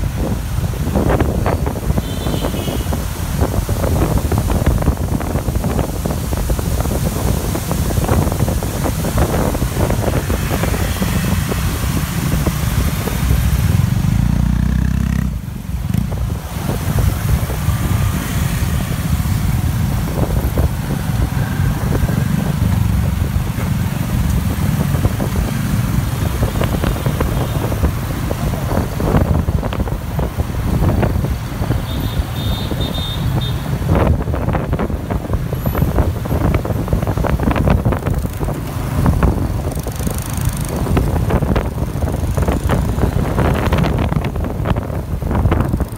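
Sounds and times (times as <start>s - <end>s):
scooter and car traffic: 0.0s - 45.9s
wind buffeting microphone: 0.0s - 45.9s.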